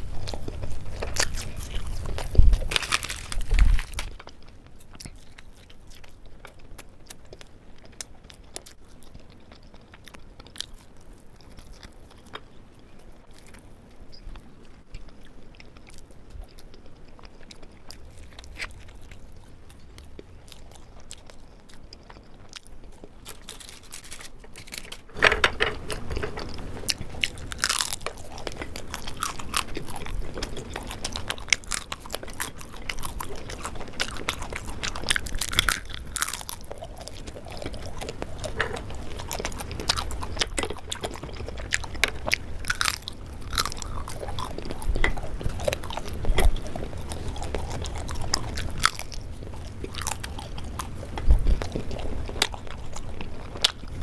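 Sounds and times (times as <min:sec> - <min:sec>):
chewing with wet clicks: 0:00.0 - 0:54.0.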